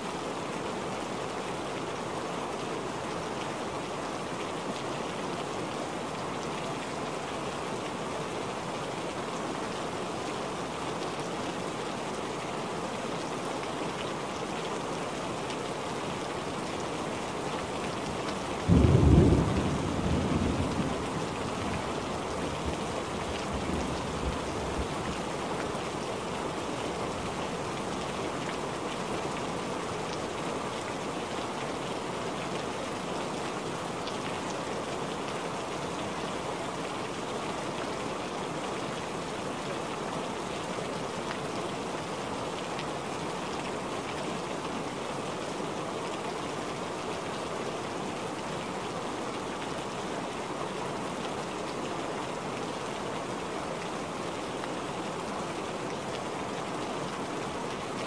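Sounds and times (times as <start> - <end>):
heavy rain on water: 0.0 - 58.0.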